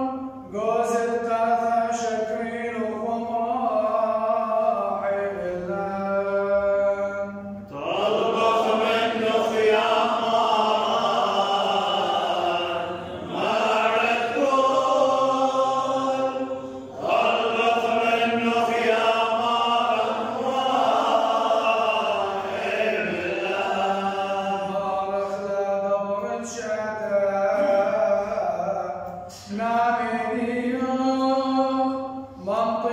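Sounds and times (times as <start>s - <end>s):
man chanting a hymn: 0.0s - 32.9s.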